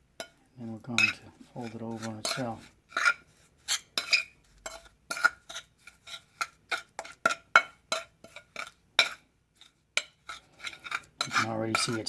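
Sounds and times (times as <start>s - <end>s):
tool scraping cement paste in dish: 0.2s - 12.0s.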